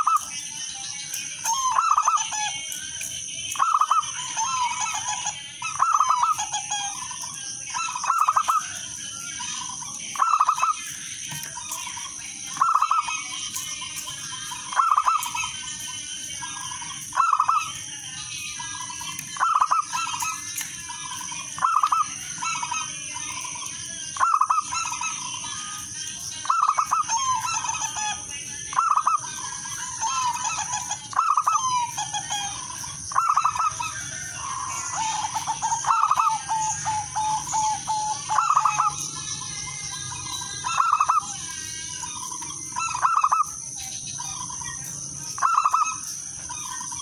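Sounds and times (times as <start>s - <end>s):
doves cooing: 0.0s - 0.4s, 1.4s - 2.7s, 3.5s - 39.1s, 40.2s - 43.6s, 44.2s - 47.0s.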